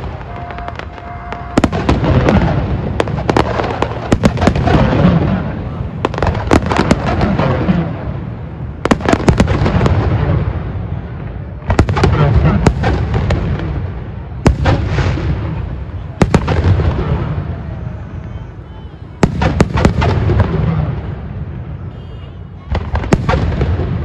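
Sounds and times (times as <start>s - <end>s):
firework bangs: 0.0s - 24.0s.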